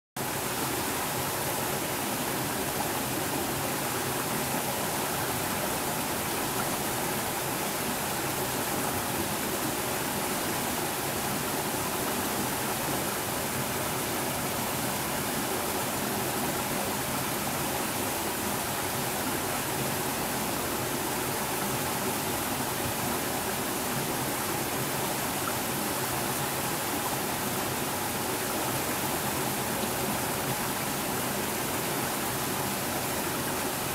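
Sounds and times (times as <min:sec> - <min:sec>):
stream flowing over rocks: 0:00.2 - 0:33.9.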